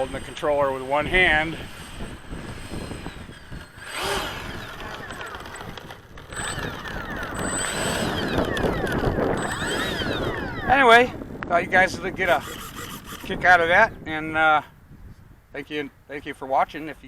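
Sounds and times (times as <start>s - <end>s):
electric ducted fan whine: 0.0s - 15.8s.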